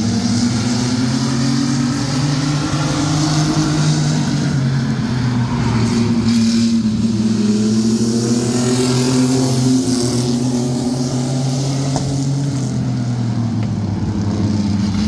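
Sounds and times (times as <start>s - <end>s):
mini truck race engines: 0.0s - 15.0s.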